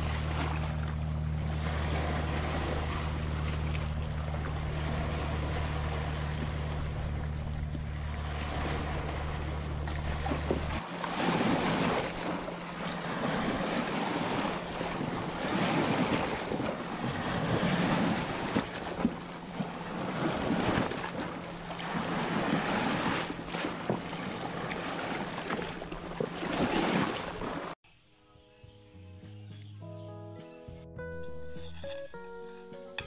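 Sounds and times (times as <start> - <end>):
waves breaking over rocks: 0.0 - 27.8.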